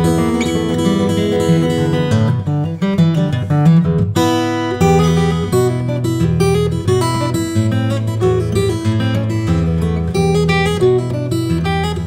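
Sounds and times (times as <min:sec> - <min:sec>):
guitar plucked and strummed: 0:00.0 - 0:12.0.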